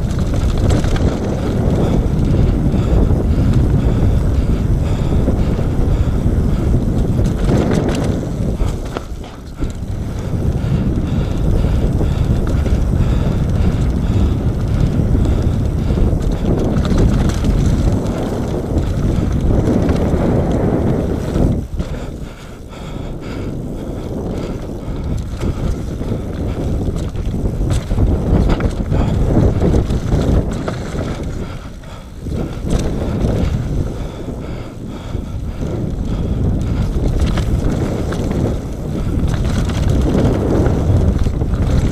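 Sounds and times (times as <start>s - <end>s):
tyre noise on dirt: 0.0s - 22.2s, 24.0s - 34.3s, 35.7s - 41.9s
mountain bike rattling: 0.0s - 41.9s
wind on microphone: 0.0s - 41.9s.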